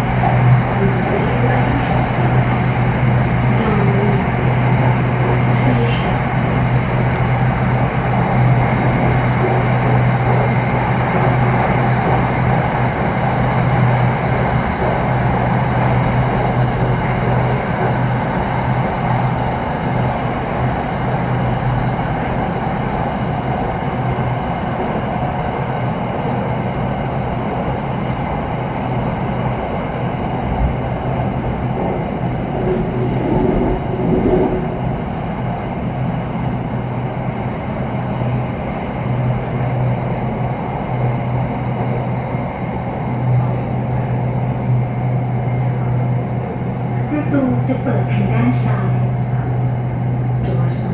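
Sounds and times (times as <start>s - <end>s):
electric train hum: 0.0s - 50.9s
wheel and rail rumble: 0.0s - 50.9s.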